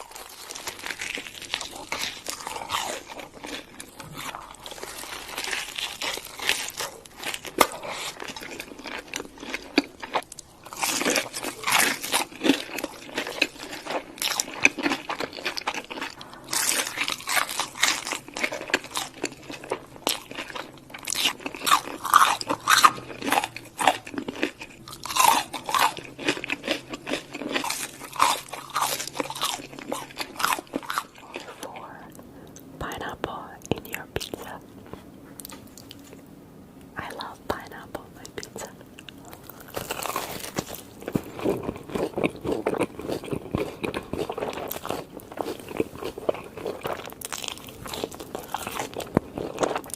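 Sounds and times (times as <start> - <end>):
crunchy bites and chewing: 0.0 - 32.7, 38.4 - 49.9.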